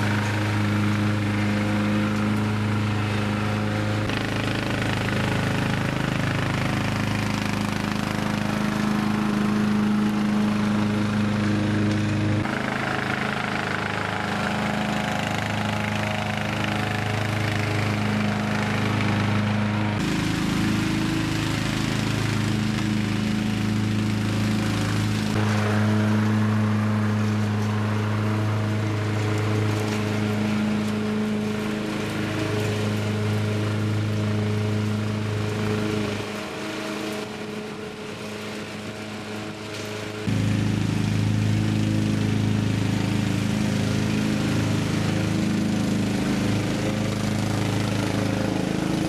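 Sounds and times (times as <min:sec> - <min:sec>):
ride-on lawn mower engine running: 0:00.0 - 0:49.0.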